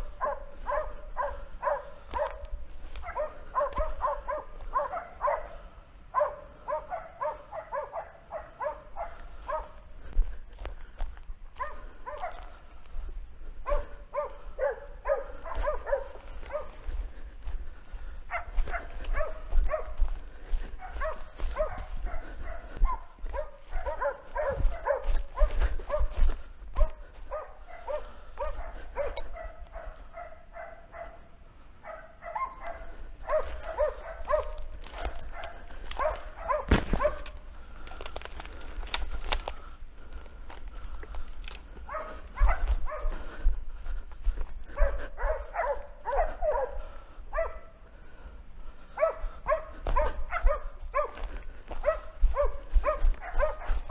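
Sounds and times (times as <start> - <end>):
branches cracking and rustling: 0.0 - 5.6, 6.9 - 30.2, 32.4 - 48.1, 48.8 - 53.9
dogs barking: 0.0 - 53.9
footsteps through brush: 0.0 - 53.9.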